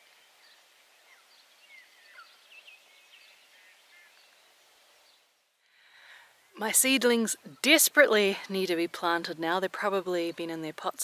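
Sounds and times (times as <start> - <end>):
quiet outdoor hiss: 0.0 - 11.0.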